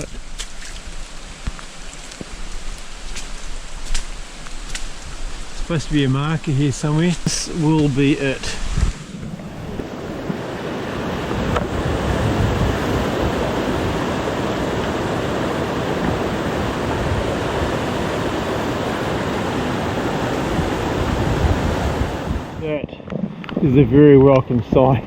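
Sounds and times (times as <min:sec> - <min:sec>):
flooded stream rushing: 0:00.0 - 0:22.8.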